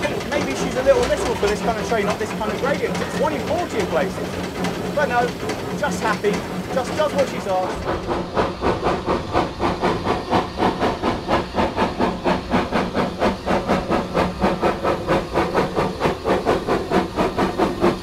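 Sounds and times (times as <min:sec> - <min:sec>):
steam hissing: 0:00.0 - 0:18.0
steam locomotive exhaust chuffing: 0:00.0 - 0:18.0.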